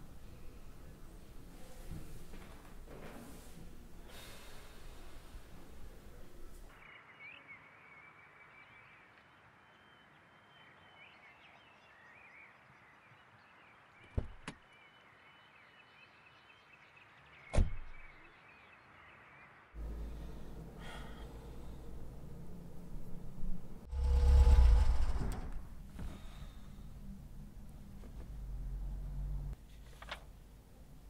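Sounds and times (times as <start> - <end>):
faint birdsong: 0.0 - 25.2.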